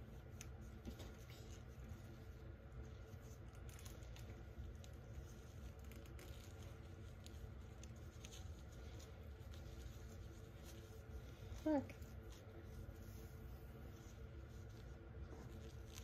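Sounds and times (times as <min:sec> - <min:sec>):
doll clothes rustling: 0:00.0 - 0:16.0
low room hum: 0:00.0 - 0:16.0.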